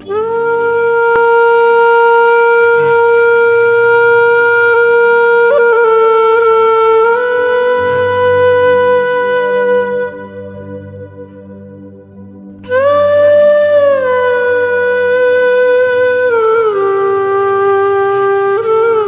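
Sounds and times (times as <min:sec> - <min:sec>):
held woodwind note: 0:00.0 - 0:19.0
low drone: 0:00.0 - 0:19.0.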